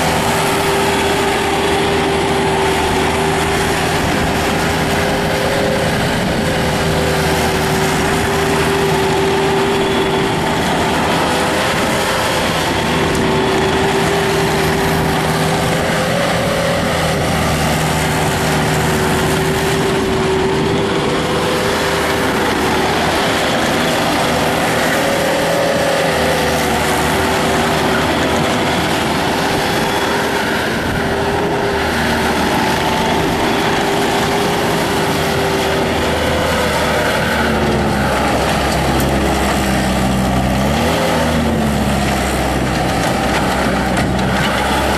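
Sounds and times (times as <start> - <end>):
diesel engine running: 0.0 - 44.9
steady whine: 0.0 - 44.9.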